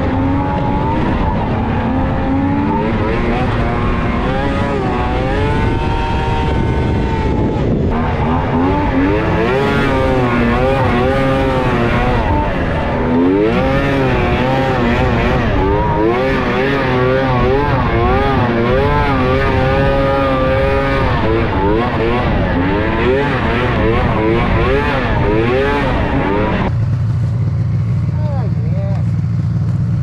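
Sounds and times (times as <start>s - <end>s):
jet ski engine revving: 0.0s - 26.8s.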